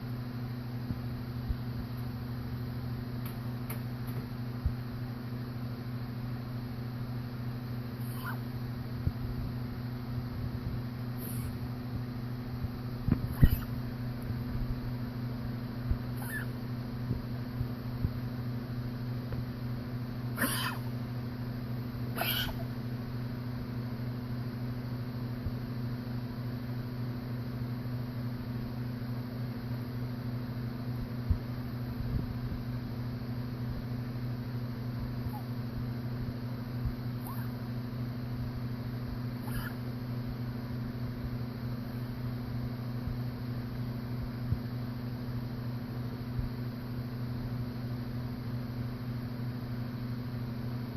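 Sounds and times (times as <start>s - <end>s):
low electrical hum: 0.0s - 50.9s.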